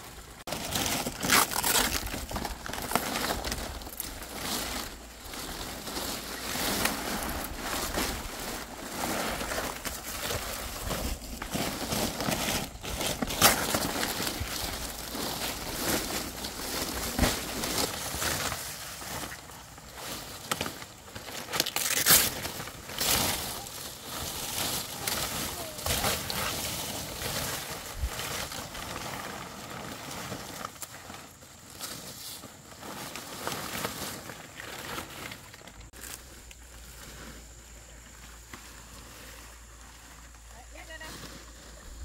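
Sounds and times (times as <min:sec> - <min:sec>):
palm leaves rustling and crackling: 0:00.0 - 0:42.0.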